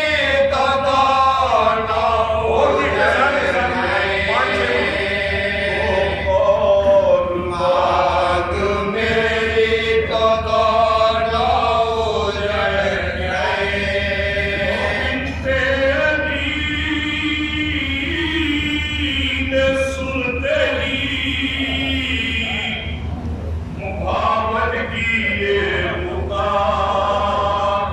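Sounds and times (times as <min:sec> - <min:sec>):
men chanting in unison: 0:00.0 - 0:22.9, 0:23.8 - 0:27.9.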